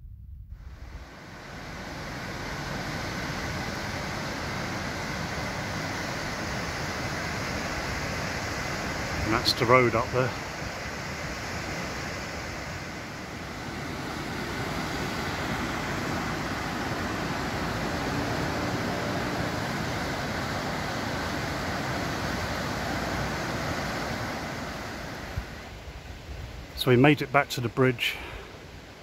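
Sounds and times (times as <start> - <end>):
river water rushing over rocks: 1.0 - 27.3.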